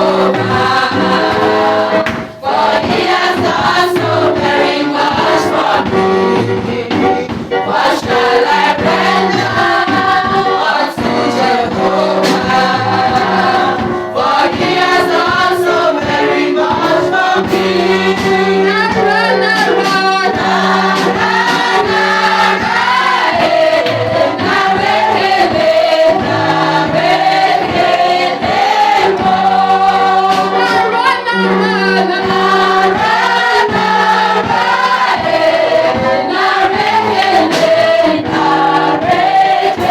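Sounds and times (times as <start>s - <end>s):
band playing with a beat: 0.0s - 39.9s
choir singing gospel: 0.0s - 39.9s.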